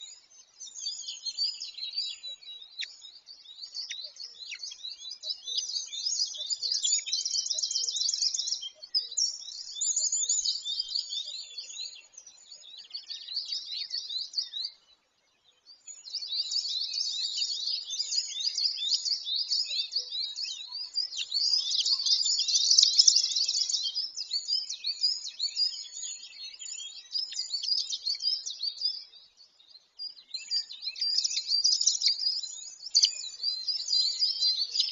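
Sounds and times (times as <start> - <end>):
birds chirping and trilling: 0.0 - 34.9.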